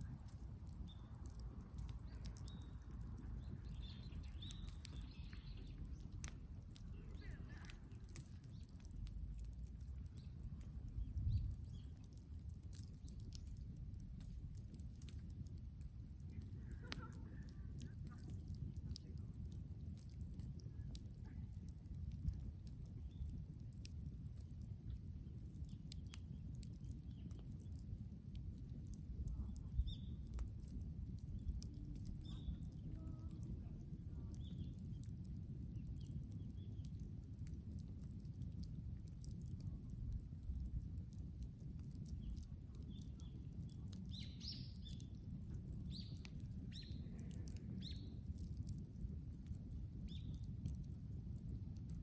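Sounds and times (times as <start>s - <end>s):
bonfire crackling: 0.0s - 52.0s
bonfire low rumble: 0.0s - 52.0s.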